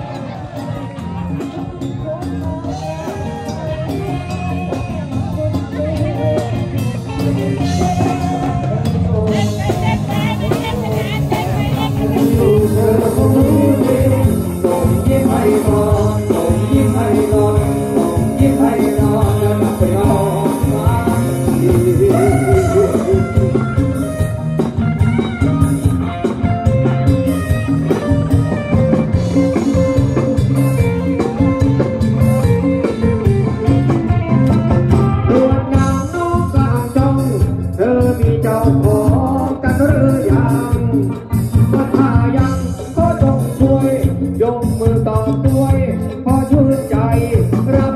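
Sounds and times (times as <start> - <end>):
person singing: 0.0 - 24.4, 27.9 - 47.9
live band playing dance song: 0.0 - 47.9.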